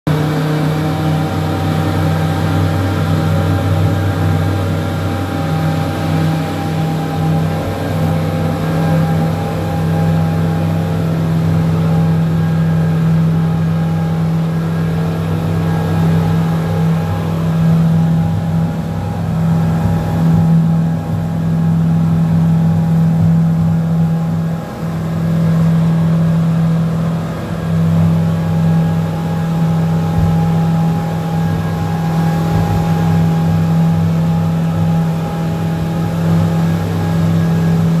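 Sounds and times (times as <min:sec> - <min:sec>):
boat engine low drone: 0:00.1 - 0:38.0.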